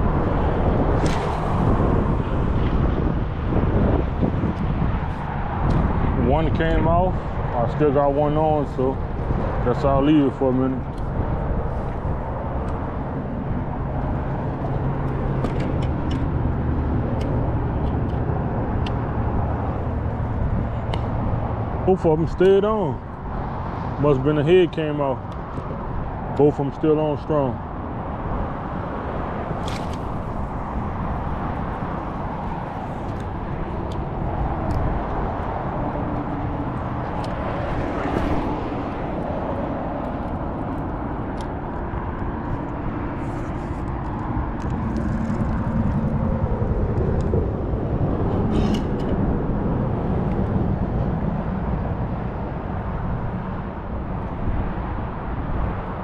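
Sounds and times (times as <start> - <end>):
road traffic: 0.0 - 56.0
wind rumble: 0.0 - 56.0.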